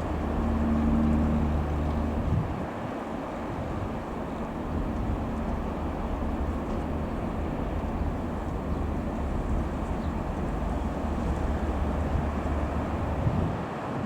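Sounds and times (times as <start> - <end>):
light aircraft engine drone: 0.0 - 13.6.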